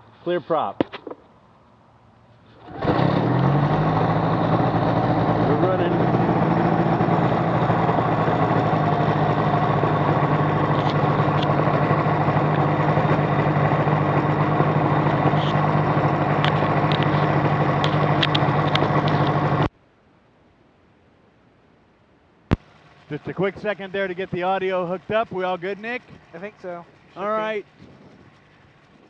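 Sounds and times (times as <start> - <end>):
aircraft engine idling: 2.5 - 19.7, 22.6 - 29.0.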